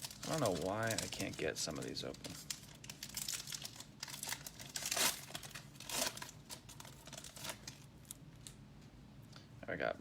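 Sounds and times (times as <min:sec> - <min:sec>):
card pack wrapper crinkling: 0:00.0 - 0:08.6.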